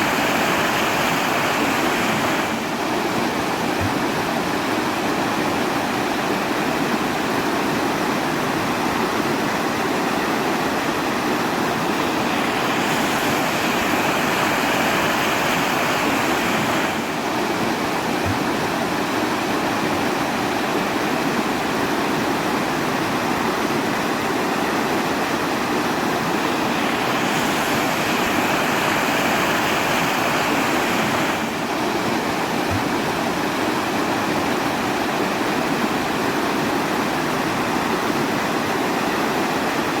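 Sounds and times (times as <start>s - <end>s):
rushing water hiss: 0.0s - 40.0s.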